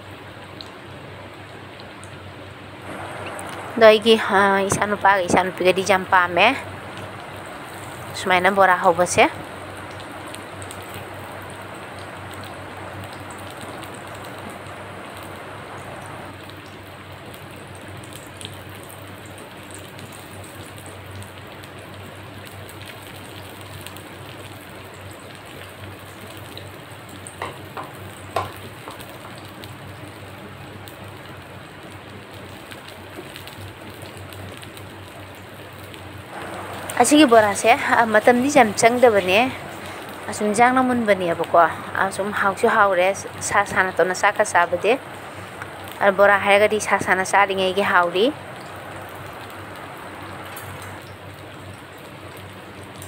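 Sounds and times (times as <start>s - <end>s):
food deep-frying in oil: 0.0s - 53.0s.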